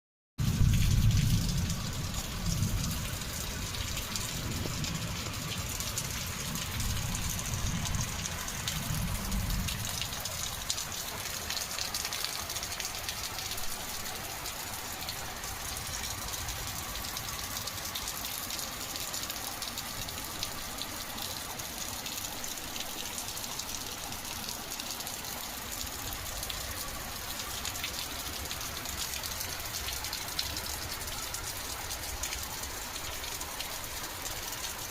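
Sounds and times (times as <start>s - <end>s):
rain falling: 0.4s - 34.9s.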